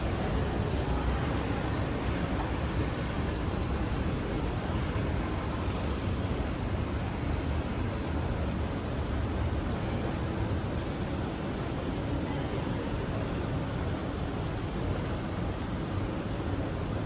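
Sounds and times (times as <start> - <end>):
train rumbling in tunnel: 0.0 - 17.0.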